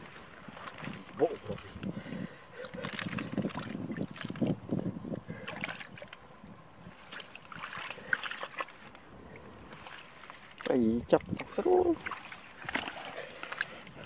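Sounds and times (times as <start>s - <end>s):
hands splashing in muddy water: 0.0s - 1.9s, 2.6s - 4.7s, 5.3s - 9.0s, 9.6s - 14.0s.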